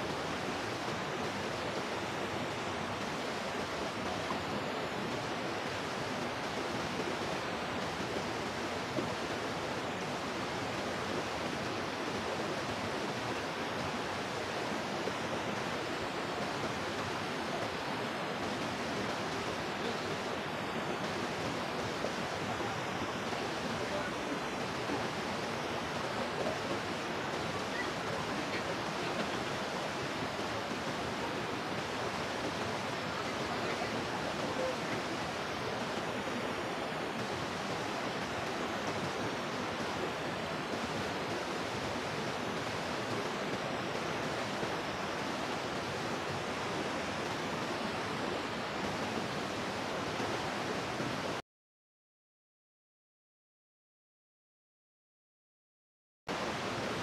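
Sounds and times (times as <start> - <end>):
rushing water: 0.0 - 51.4, 56.3 - 57.0.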